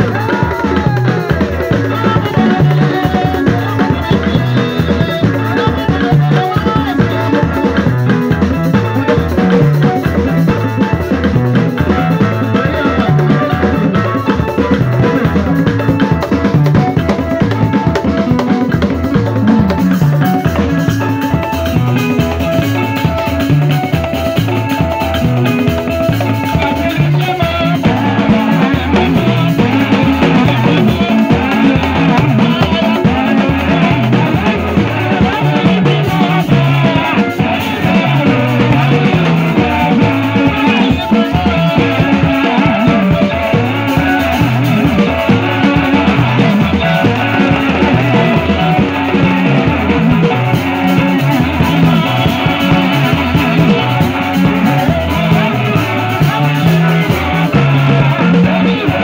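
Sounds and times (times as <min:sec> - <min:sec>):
drum kit: 0:00.0 - 0:59.0
stepping bass line: 0:00.0 - 0:59.0.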